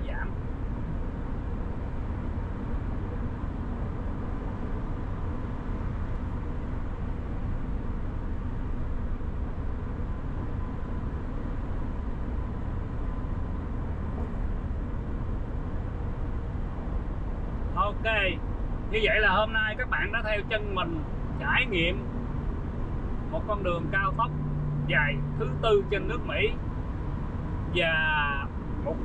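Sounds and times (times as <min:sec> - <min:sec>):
car road noise: 0:00.0 - 0:29.0.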